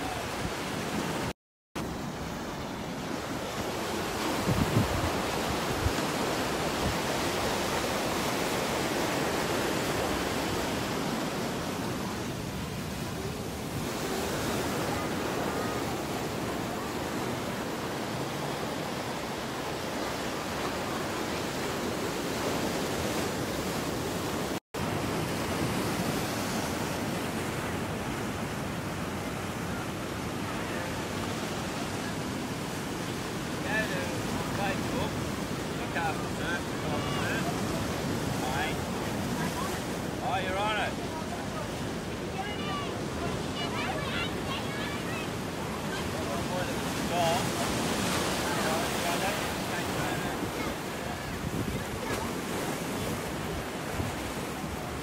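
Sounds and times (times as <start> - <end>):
surf washing over rocks: 0.0 - 55.0.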